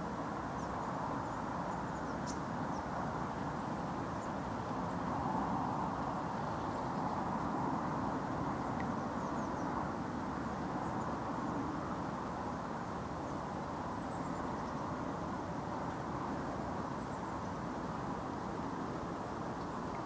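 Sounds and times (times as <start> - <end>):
low rushing outdoor noise: 0.0 - 20.0.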